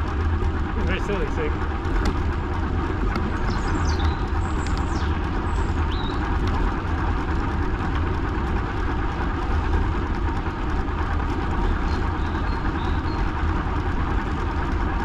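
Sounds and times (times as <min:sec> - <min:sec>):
wheels rolling along a path: 0:00.0 - 0:15.0
wind rumble on microphone: 0:00.0 - 0:15.0.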